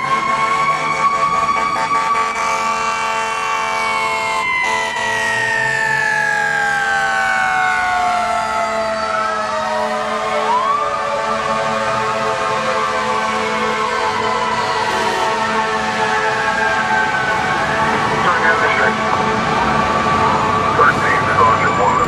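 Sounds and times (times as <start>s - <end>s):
siren wailing: 0.0s - 22.0s.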